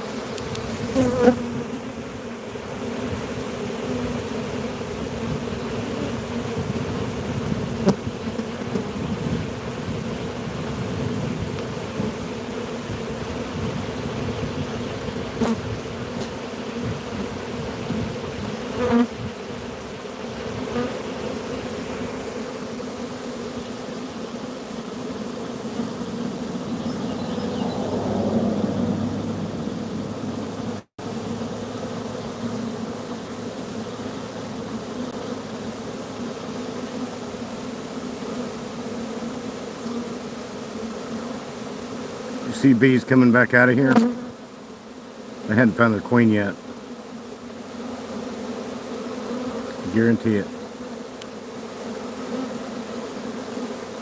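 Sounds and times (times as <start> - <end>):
honeybee swarm buzzing: 0.0 - 54.0.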